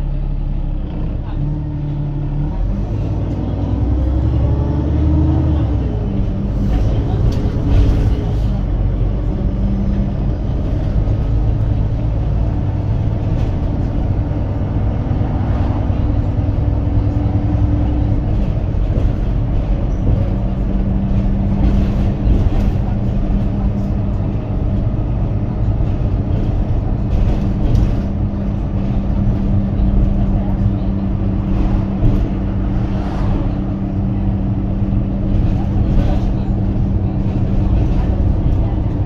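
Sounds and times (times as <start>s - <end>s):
bus diesel engine drone: 0.0s - 39.0s
road rumble: 0.0s - 39.0s.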